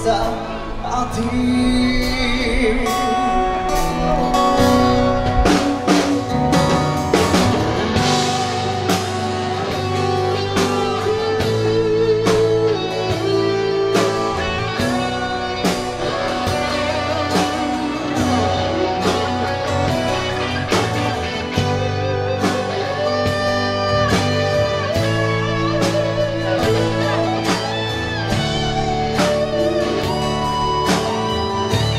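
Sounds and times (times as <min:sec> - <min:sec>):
bass guitar: 0:00.0 - 0:31.9
electric guitars: 0:00.0 - 0:31.9
drum kit beat: 0:02.8 - 0:31.9.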